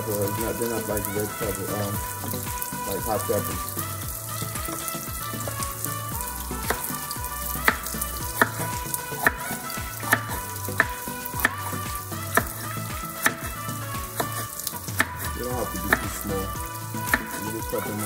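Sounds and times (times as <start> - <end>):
fish frying in oil: 0.0 - 18.0.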